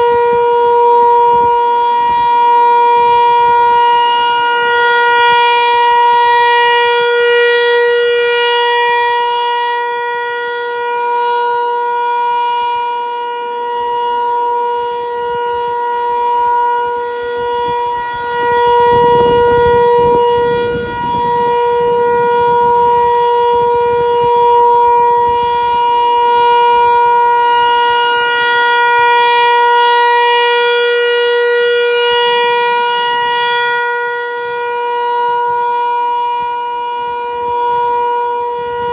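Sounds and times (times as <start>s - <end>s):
outdoor warning siren: 0.0s - 38.9s.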